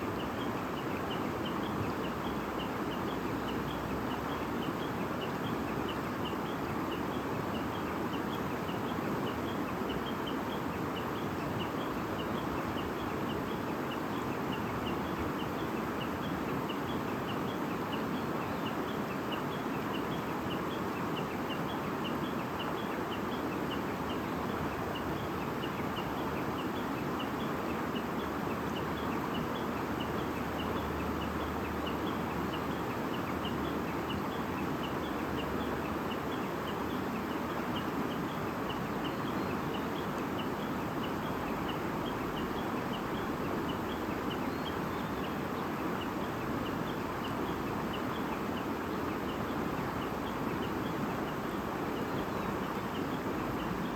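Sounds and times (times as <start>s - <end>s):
babbling stream: 0.0s - 53.9s
small birds chirping: 0.1s - 53.9s.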